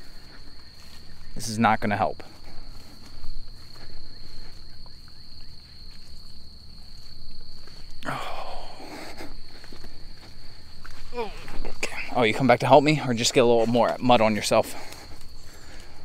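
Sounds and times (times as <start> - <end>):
footsteps on muddy trail: 0.0 - 16.0.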